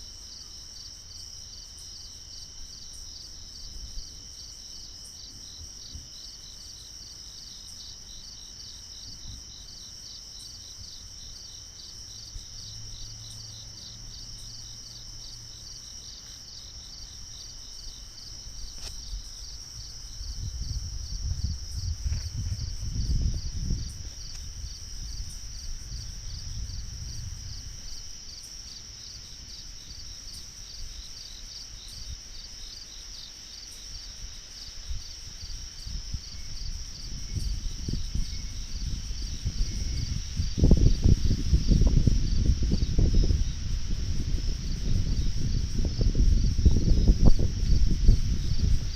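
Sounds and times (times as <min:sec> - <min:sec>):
crickets and insects chirping: 0:00.0 - 0:48.9.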